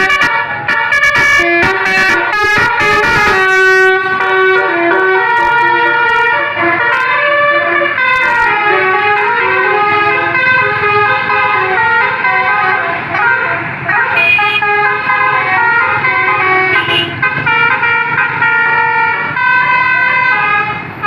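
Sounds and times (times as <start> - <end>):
bus musical horn playing a tune: 0.0 - 21.0.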